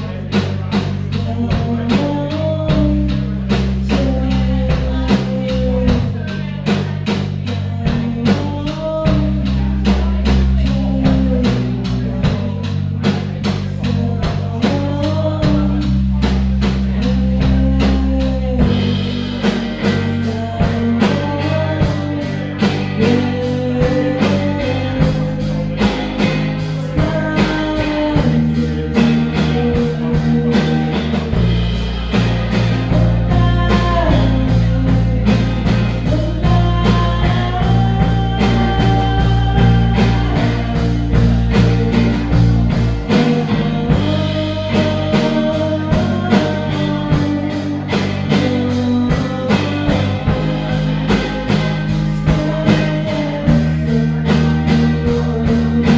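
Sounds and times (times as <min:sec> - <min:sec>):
bass guitar: 0:00.0 - 0:55.9
drum kit beat: 0:00.0 - 0:55.9
electric guitars: 0:00.0 - 0:55.9
woman singing: 0:00.0 - 0:55.9.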